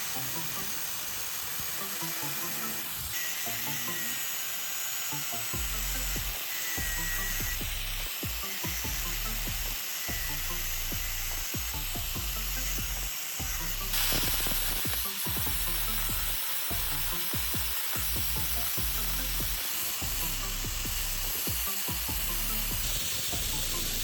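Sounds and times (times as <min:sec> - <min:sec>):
background music with beat: 0:00.0 - 0:24.0
metalworking crackling hiss: 0:00.0 - 0:24.0.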